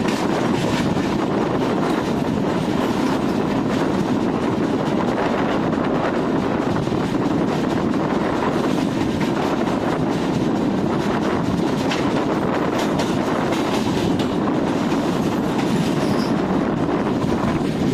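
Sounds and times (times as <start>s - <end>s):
train wheels rumbling on track: 0.0s - 17.9s.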